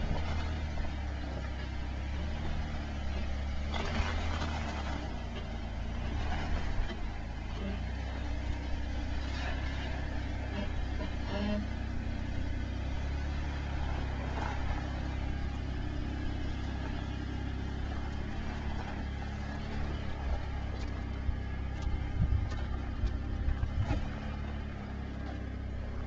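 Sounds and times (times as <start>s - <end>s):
vehicle engine running at low revs: 0.0s - 26.0s.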